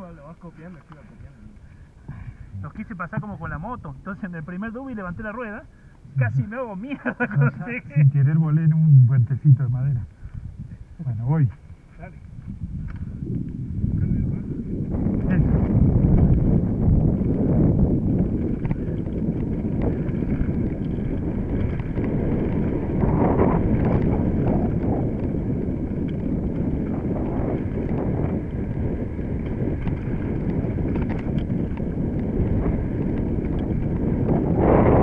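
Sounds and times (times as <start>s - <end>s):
bike rattling over bumps: 0.0s - 8.6s, 9.7s - 35.0s
bike tyres rumbling on dirt: 0.0s - 35.0s
wind on microphone: 0.0s - 35.0s.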